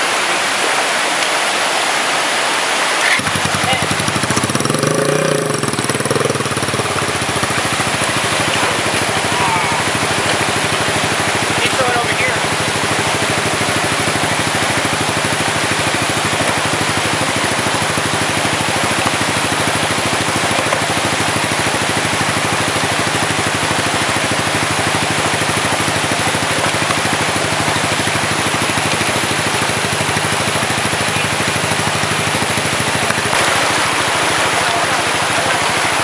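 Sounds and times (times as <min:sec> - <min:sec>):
stream water flowing: 0:00.0 - 0:36.0
dirt bike engine idling: 0:03.0 - 0:36.0.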